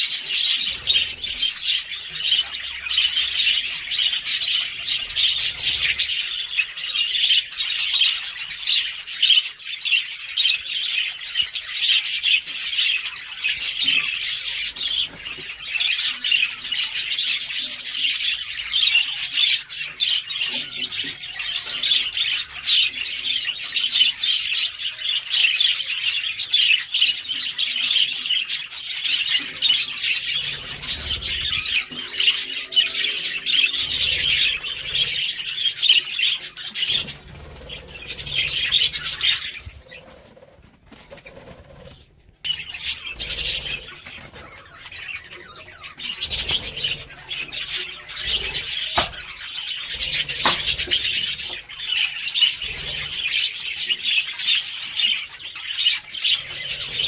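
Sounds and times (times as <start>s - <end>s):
budgerigars chattering and chirping: 0.0s - 57.0s.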